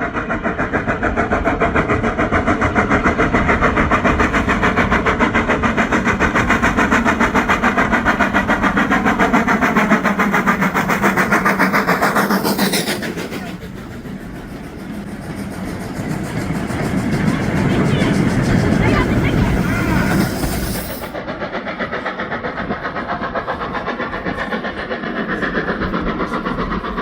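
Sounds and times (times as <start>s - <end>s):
locomotive engine working under load: 0.1s - 25.8s.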